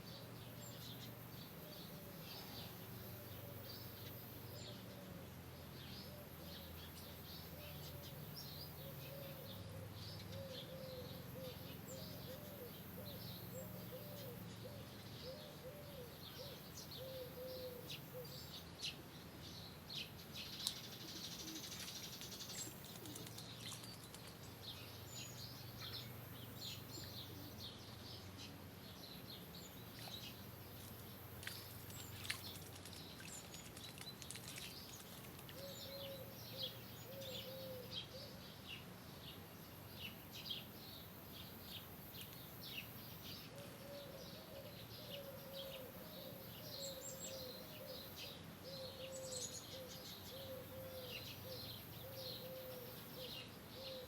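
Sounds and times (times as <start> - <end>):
birds chirping: 5.8 - 54.0.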